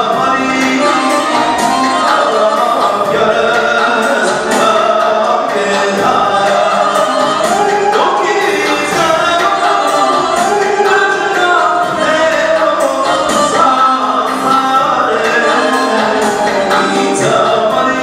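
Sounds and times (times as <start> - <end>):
electronic keyboard: 0.0 - 18.0
man singing through microphone: 0.0 - 18.0
steady beat: 0.0 - 18.0.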